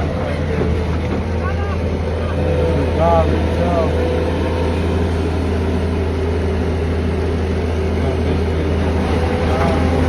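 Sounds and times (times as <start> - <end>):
heavy machinery drone: 0.0 - 10.0.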